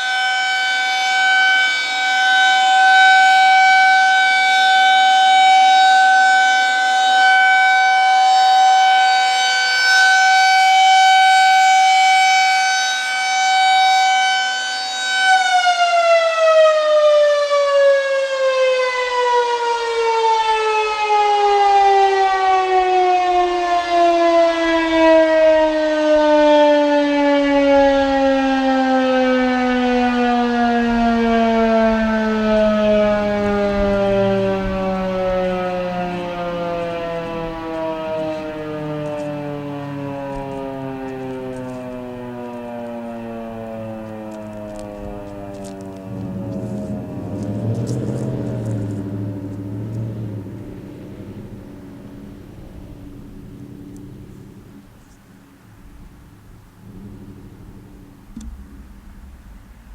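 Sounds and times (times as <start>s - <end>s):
electromechanical siren winding down: 0.0s - 59.4s.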